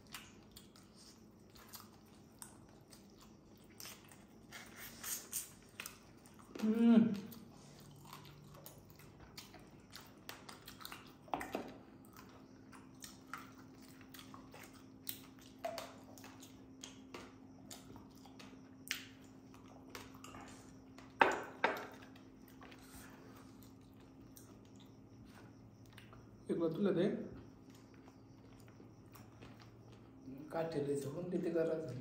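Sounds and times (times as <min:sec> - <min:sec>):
chewing: 0:00.0 - 0:26.5, 0:27.2 - 0:30.3
faint steady hum: 0:00.0 - 0:32.0.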